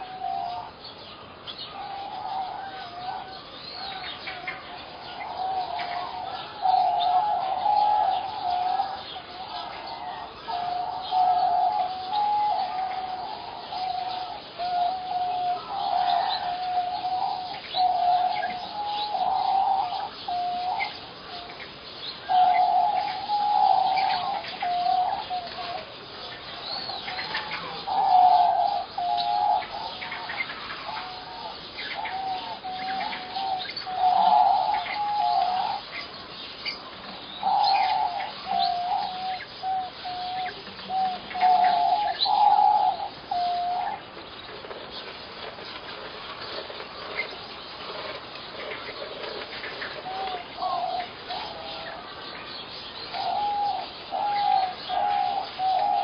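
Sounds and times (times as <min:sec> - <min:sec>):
wavering bird call: 0:00.0 - 0:00.8, 0:01.6 - 0:25.9, 0:26.7 - 0:36.1, 0:36.7 - 0:44.0, 0:50.0 - 0:52.2, 0:53.0 - 0:56.0.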